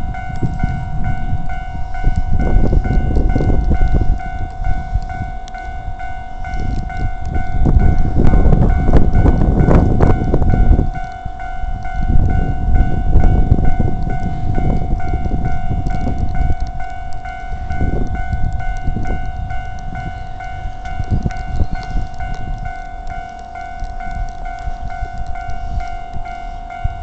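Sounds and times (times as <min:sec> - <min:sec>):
level crossing warning bell: 0:00.0 - 0:27.0
trains rumbling past: 0:00.0 - 0:27.0.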